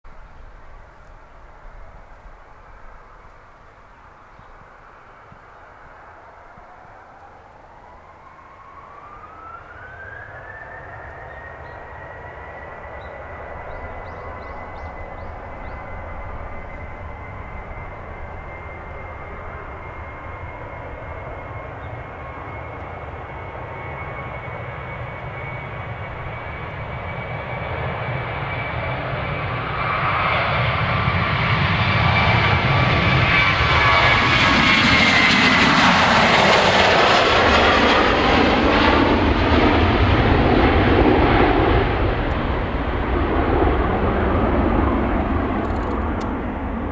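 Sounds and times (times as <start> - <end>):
jet engines whining and roaring: 0.1 - 46.9.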